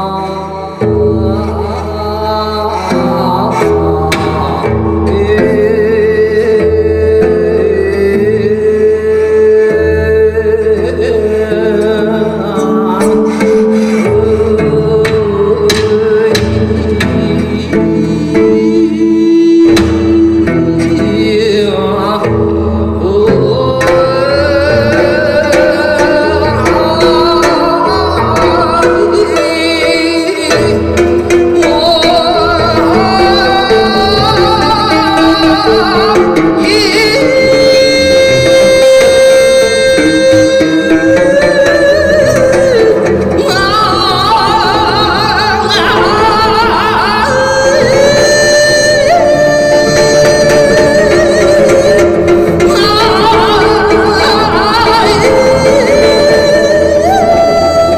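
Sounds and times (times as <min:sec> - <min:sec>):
instrumental accompaniment: 0:00.0 - 0:57.9
person singing folk song: 0:00.0 - 0:57.9.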